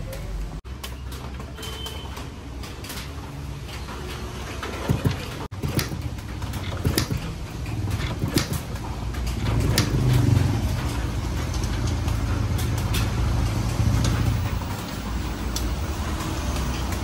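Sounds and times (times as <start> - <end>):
sharp clicks and knocks: 0.1 - 17.0.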